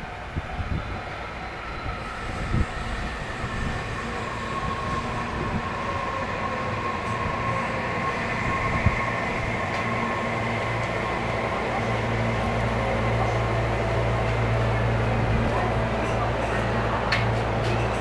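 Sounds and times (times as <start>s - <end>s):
electric train rumble and whine: 0.0s - 18.0s.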